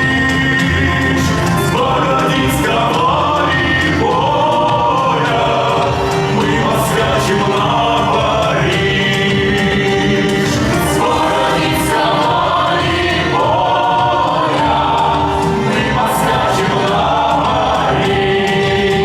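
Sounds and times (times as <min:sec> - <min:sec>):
folk choir singing in harmony: 0:00.0 - 0:19.0
low bass: 0:00.0 - 0:19.0.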